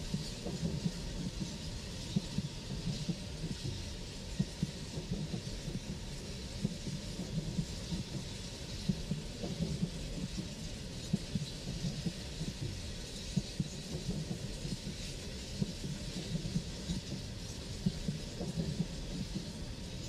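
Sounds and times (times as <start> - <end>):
coal train rumbling on track: 0.0 - 20.0.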